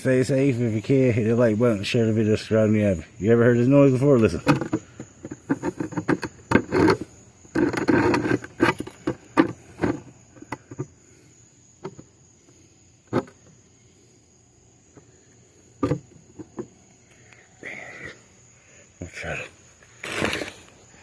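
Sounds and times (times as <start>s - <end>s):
cicada buzzing: 0.0s - 21.0s
cicada clicks: 0.1s - 21.0s.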